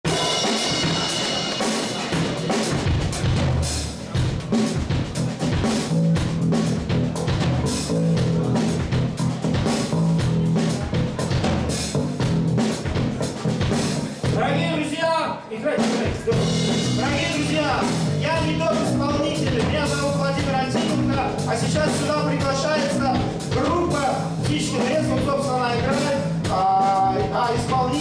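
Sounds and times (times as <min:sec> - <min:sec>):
rock drum kit groove: 0:00.0 - 0:14.9, 0:15.8 - 0:28.0.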